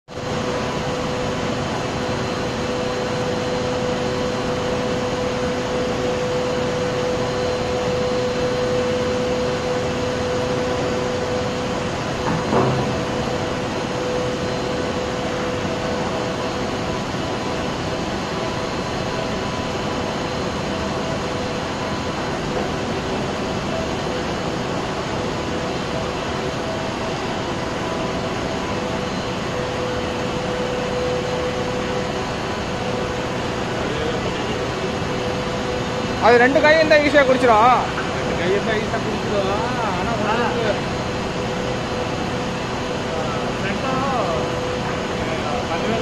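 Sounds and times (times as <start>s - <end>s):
machinery drone: 0.1s - 46.0s.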